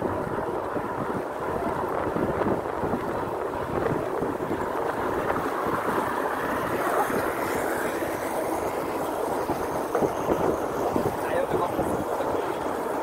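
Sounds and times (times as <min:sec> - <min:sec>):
road noise: 0:00.0 - 0:13.0
wind on microphone: 0:00.0 - 0:13.0.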